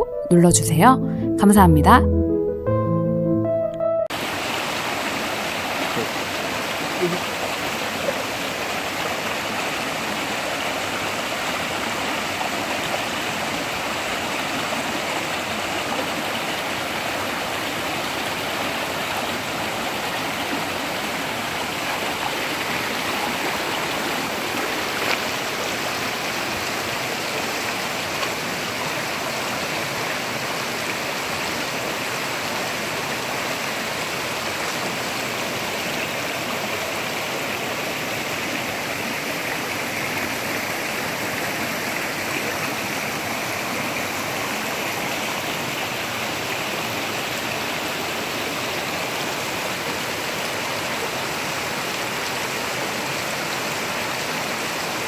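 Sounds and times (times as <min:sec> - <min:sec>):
stream rushing over rocks: 0:04.2 - 0:55.0.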